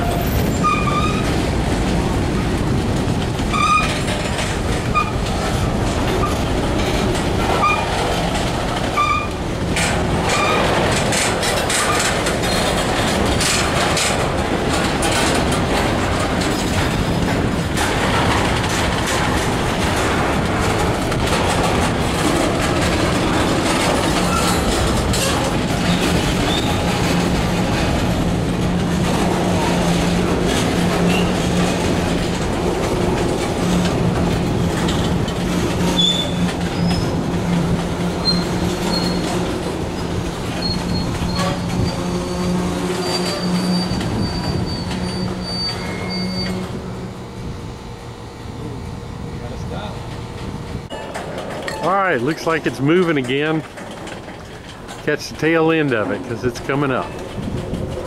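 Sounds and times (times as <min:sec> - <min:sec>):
wheels clicking over rail joints: 0:00.0 - 0:47.1, 0:49.6 - 0:58.0
train wheels rumbling on rail: 0:00.0 - 0:58.0.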